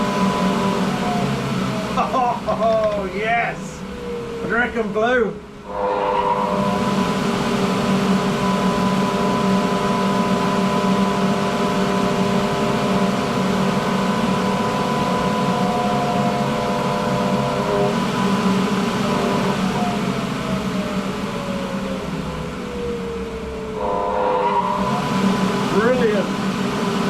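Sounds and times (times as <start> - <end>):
extractor fan whirring: 0.0 - 27.0.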